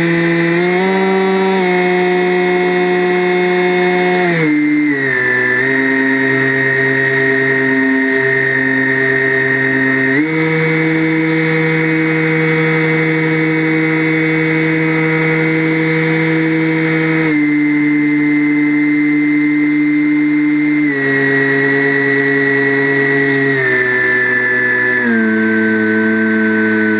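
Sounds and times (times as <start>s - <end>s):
model airplane motor whining: 0.0s - 26.9s.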